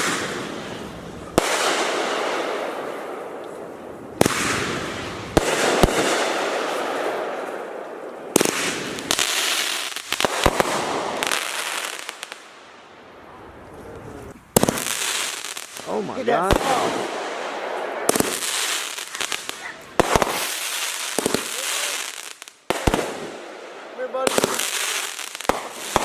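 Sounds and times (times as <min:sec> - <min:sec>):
fireworks bangs: 0:00.0 - 0:12.9, 0:14.5 - 0:26.0
crackling hiss of fireworks: 0:00.0 - 0:26.0.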